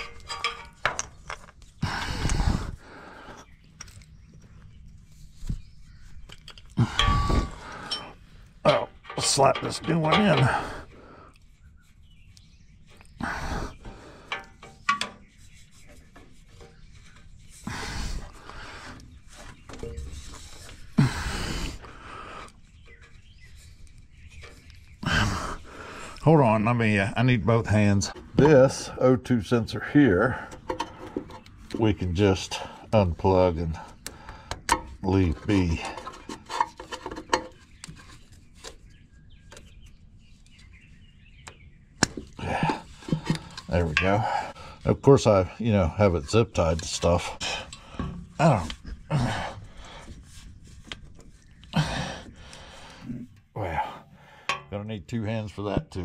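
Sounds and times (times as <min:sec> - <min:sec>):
hand rubbing and scraping: 0:00.0 - 0:41.1, 0:42.0 - 0:54.8
faint bird chirping: 0:00.0 - 0:56.0.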